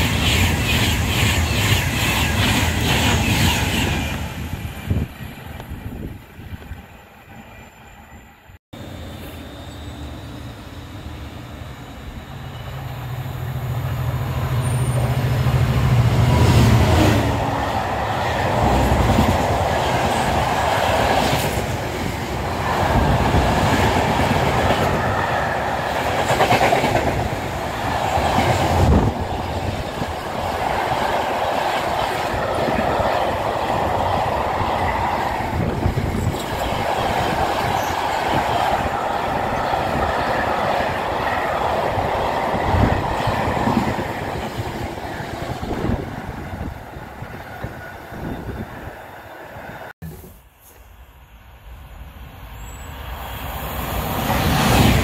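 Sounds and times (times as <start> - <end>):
freight train rolling roar: 0.0 - 50.0, 50.8 - 55.0.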